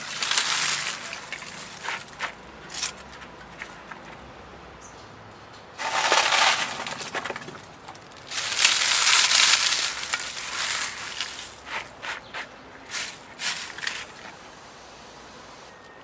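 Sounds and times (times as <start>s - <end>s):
dry leaves crackling: 0.0s - 4.1s, 5.8s - 14.5s.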